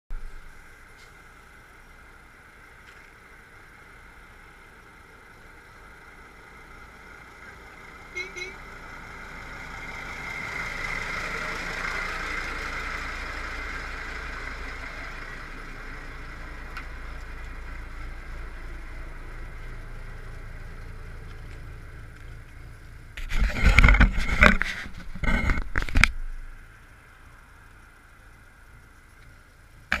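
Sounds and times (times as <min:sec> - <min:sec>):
coach engine running: 0:00.2 - 0:30.0.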